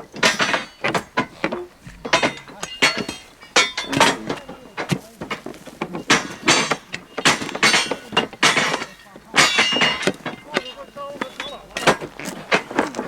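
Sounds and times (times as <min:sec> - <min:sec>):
metal striking metal: 0:00.0 - 0:12.0.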